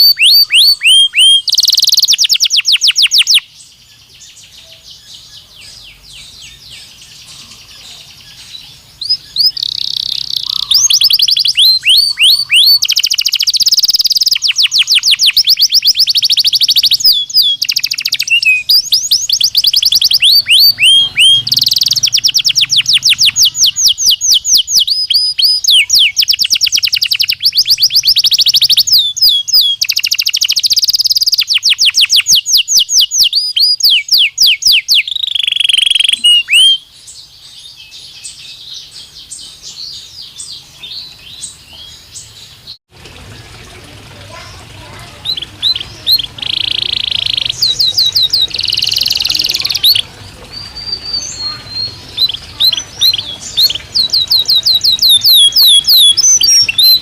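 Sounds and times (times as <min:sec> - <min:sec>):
canary singing rapid trills: 0:00.0 - 0:42.8, 0:44.4 - 0:57.0.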